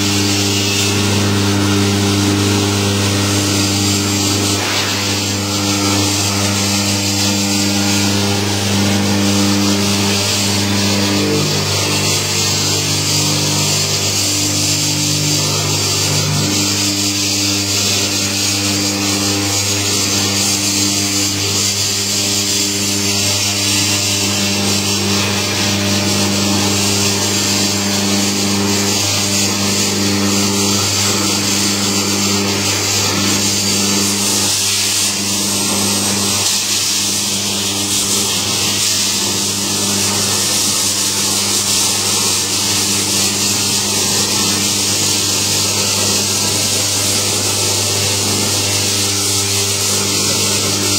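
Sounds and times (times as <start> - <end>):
harsh rubbing scraping noise: 0.0 - 50.9
machine motor hum: 0.0 - 50.9.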